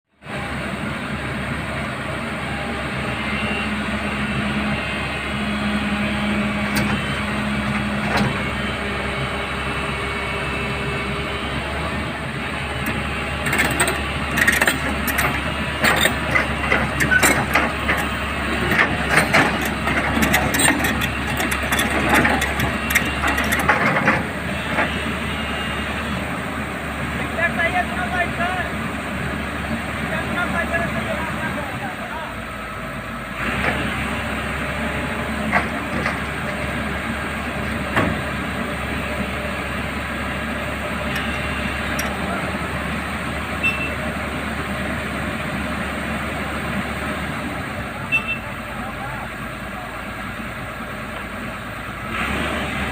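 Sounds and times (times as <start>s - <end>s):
excavator diesel engine running: 0.1s - 52.9s.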